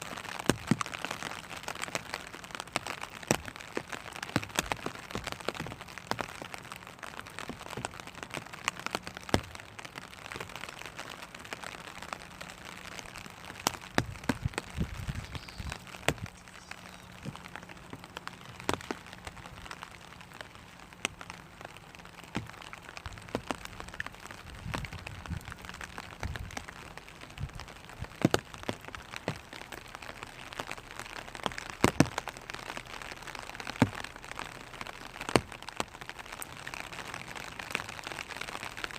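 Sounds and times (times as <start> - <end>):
rain hiss: 0.0 - 38.9
raindrops tapping on plastic umbrella: 0.0 - 38.9.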